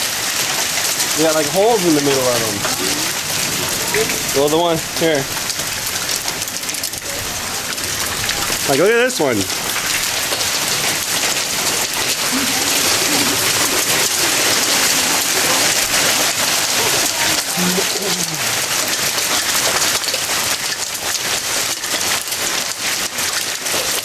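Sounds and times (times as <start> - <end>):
hail pattering on grass: 0.0 - 24.0.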